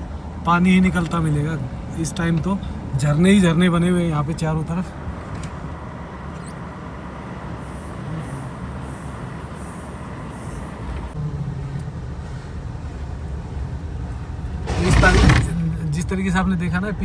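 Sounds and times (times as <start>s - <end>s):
car engine: 0.0s - 17.0s
tyre noise on road: 0.0s - 17.0s.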